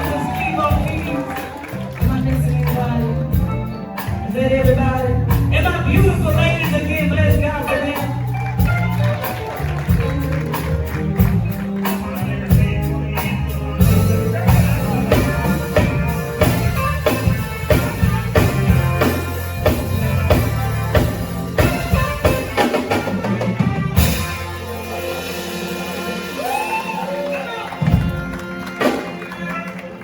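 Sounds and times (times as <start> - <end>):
bass guitar notes: 0.0 - 29.3
drum kit beat: 0.0 - 29.4.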